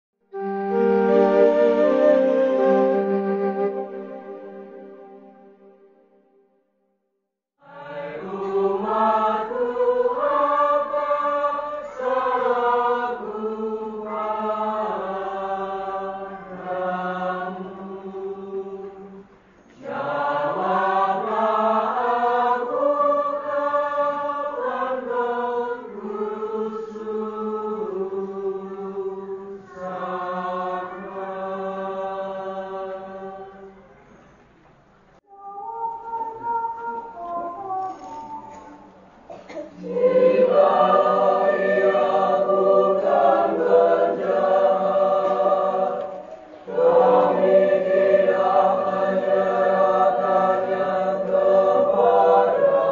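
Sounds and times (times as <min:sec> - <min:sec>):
choir singing a slow chant: 0:00.4 - 0:05.8, 0:07.6 - 0:34.4, 0:35.3 - 0:52.9.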